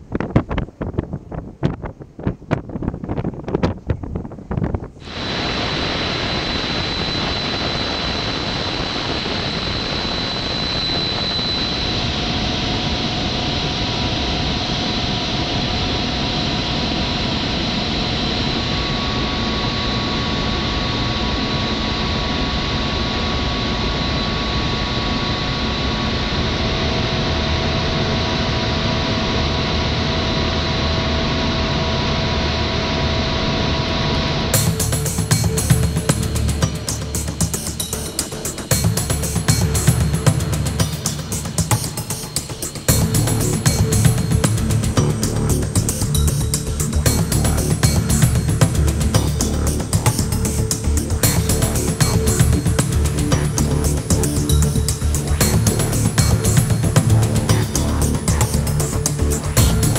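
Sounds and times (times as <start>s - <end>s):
jet engines idling: 5.0s - 59.9s.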